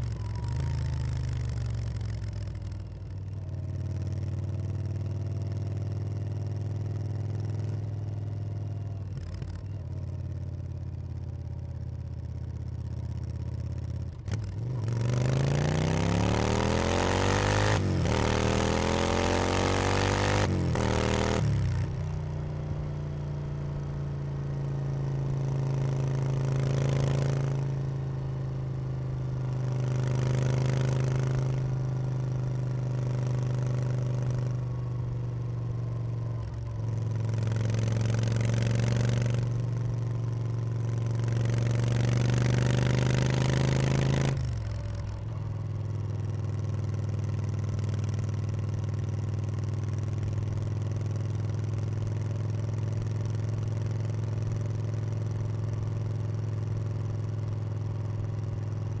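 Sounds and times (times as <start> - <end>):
motorcycle engine at road speed: 0.0 - 59.0.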